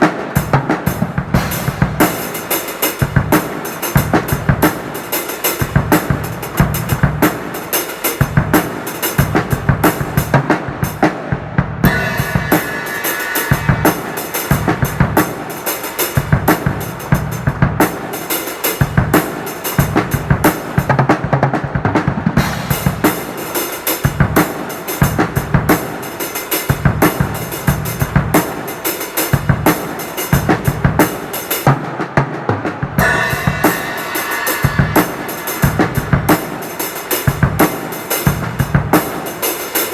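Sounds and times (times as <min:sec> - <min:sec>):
drum kit played hard: 0:00.0 - 0:39.9.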